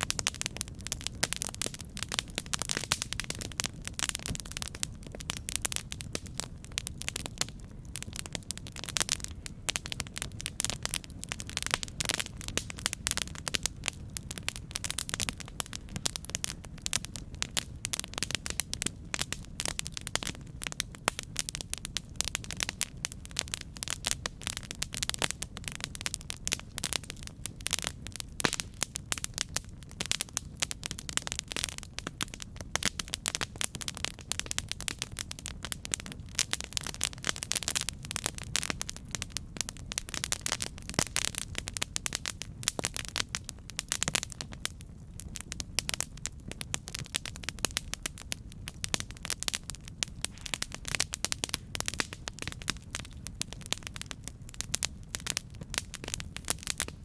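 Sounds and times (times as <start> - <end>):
campfire crackling and snapping: 0.0 - 57.0
low rumble of flames: 0.0 - 57.0.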